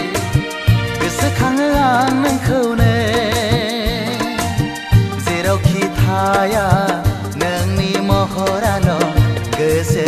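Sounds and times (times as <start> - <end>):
backing instruments: 0.0 - 10.0
person singing: 0.0 - 10.0
steady drum beat: 0.0 - 10.0.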